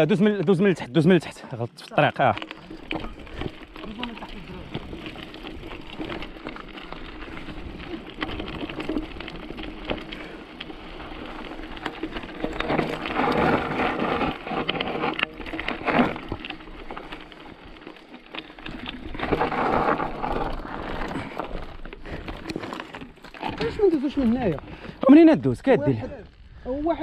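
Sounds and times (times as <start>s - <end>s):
bike rattling and clicking: 0.0s - 27.0s
bike tyres on dirt and stones: 0.0s - 27.0s.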